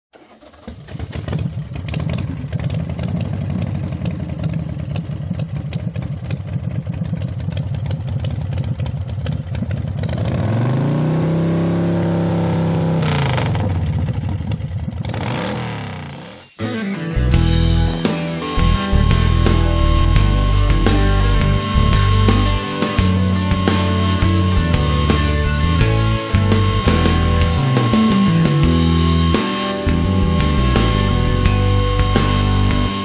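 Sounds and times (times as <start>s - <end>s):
engine idling and revving: 0.1s - 16.6s, 17.2s - 33.0s.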